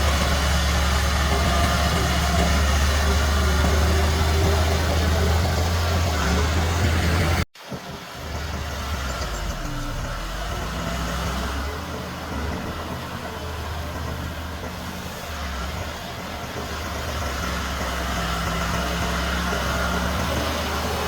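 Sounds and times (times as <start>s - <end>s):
diesel engine running at low revs: 0.0s - 21.0s.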